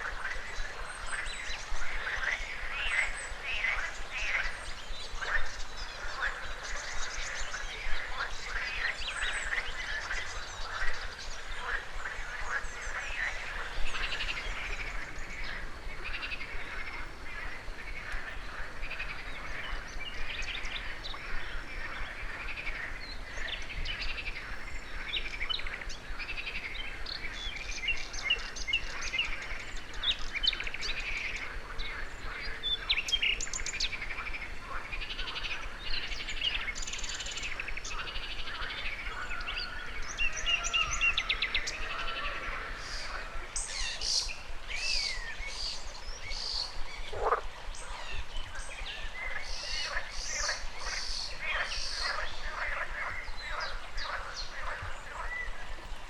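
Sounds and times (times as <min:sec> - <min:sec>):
birds chirping and trilling: 0:00.0 - 0:56.0
frogs croaking: 0:00.0 - 0:56.0
running river water: 0:00.0 - 0:56.0.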